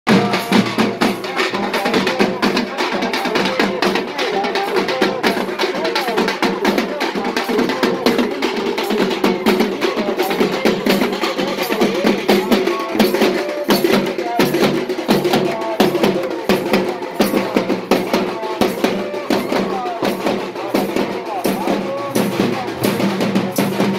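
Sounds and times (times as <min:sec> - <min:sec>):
fast drum beats: 0:00.1 - 0:23.9
voices: 0:00.1 - 0:23.9.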